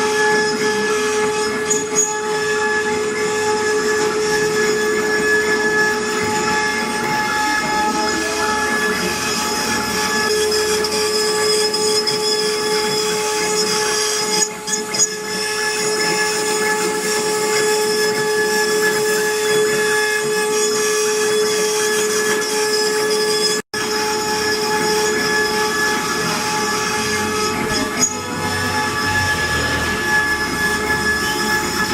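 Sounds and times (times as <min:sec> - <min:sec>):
router bit cutting wood: 0:00.0 - 0:31.9
router spindle whine: 0:00.0 - 0:31.9.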